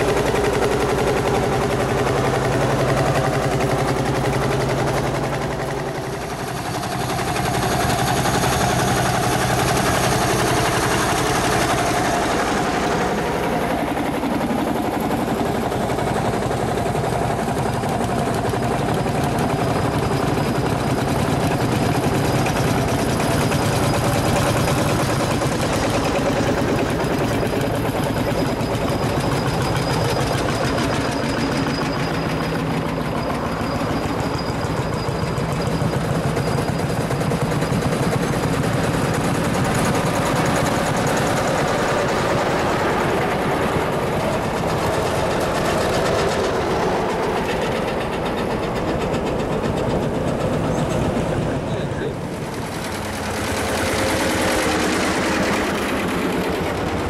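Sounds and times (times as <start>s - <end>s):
diesel tractors passing: 0.0s - 57.0s.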